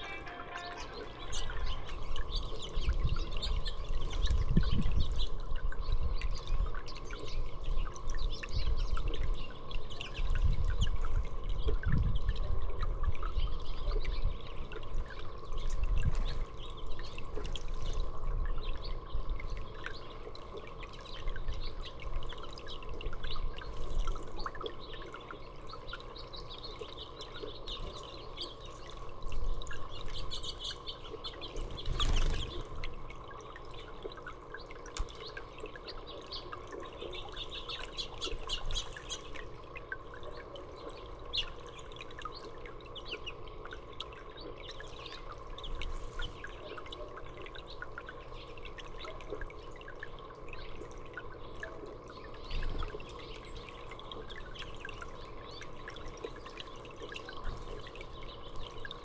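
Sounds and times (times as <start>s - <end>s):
small birds chirping: 0.0s - 12.3s, 13.2s - 59.0s.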